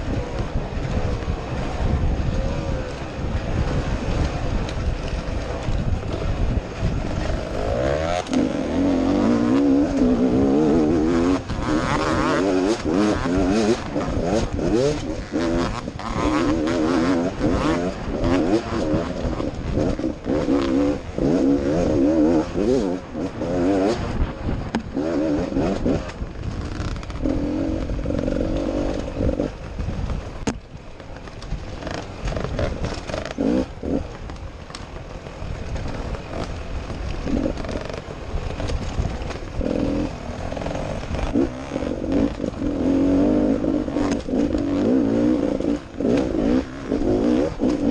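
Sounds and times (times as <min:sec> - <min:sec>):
dirt bike engine revving: 0:00.0 - 0:29.7, 0:31.8 - 0:34.2, 0:35.8 - 0:47.9.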